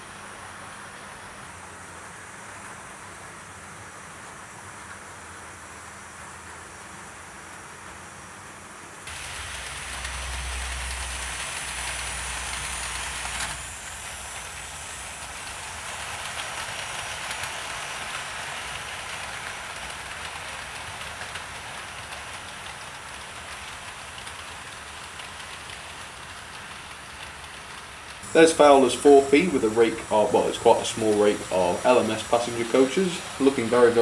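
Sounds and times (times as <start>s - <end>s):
model trains whirring rattle: 0.0s - 34.0s.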